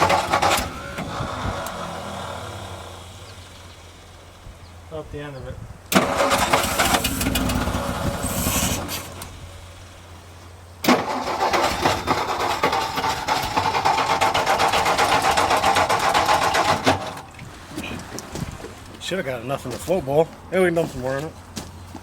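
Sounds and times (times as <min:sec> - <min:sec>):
truck engine starting and running: 0:00.0 - 0:22.0.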